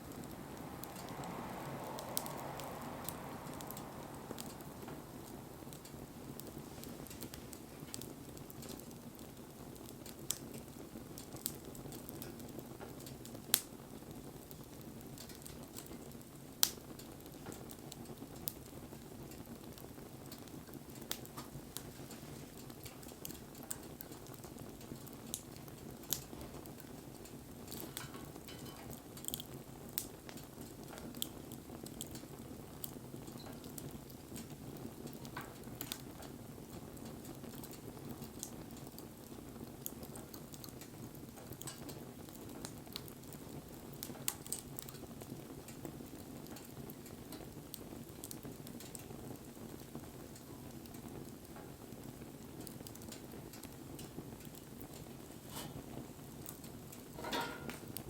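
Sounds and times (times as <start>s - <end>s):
fire rushing: 0.0s - 58.0s
wood crackling and popping: 0.0s - 58.0s.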